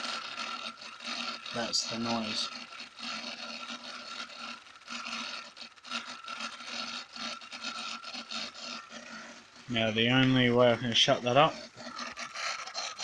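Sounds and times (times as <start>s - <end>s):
laptop cooling fan noise: 0.0s - 13.0s.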